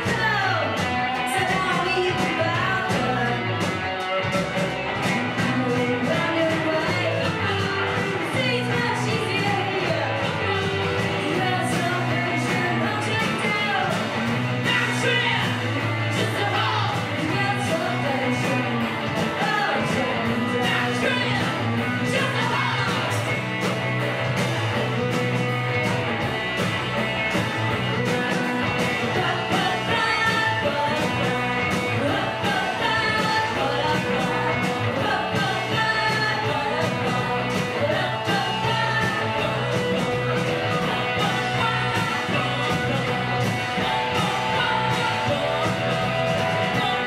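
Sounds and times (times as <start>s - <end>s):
woman singing: 0.0s - 3.6s, 5.2s - 23.4s, 28.7s - 47.0s
rock band playing live: 0.0s - 47.0s.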